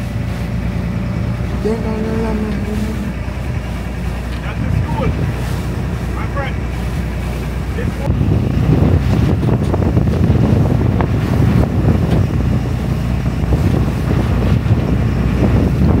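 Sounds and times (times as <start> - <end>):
motorboat running at speed: 0.0 - 16.0
water rushing past hull: 0.0 - 16.0
wind buffeting microphone: 0.0 - 16.0.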